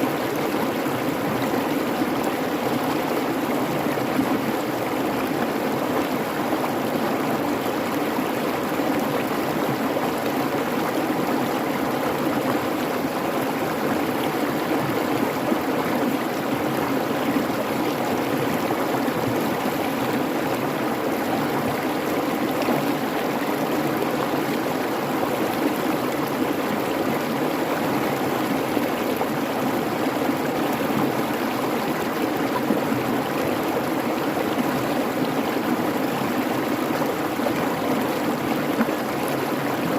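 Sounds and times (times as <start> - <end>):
creek babbling: 0.0 - 39.9.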